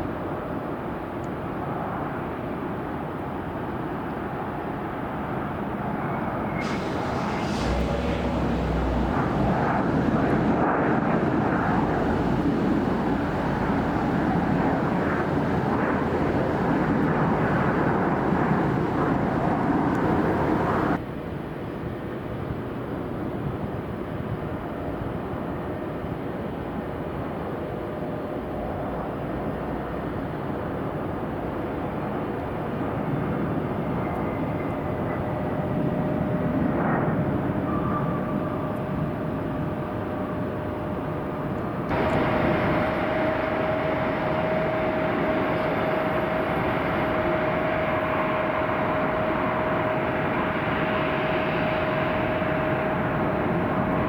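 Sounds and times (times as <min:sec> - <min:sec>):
jet engines running: 0:00.3 - 0:21.0, 0:27.7 - 0:54.0.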